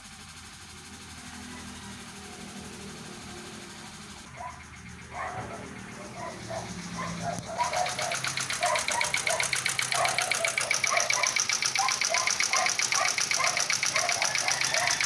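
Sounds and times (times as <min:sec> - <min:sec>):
car engine idling: 0:00.0 - 0:15.0
fast steady engine ticking: 0:00.0 - 0:15.0.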